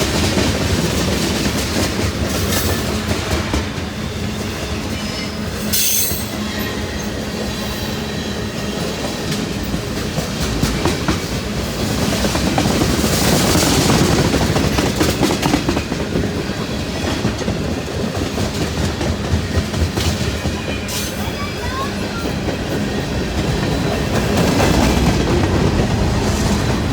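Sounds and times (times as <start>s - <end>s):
freight train wheels clattering: 0.0s - 26.9s.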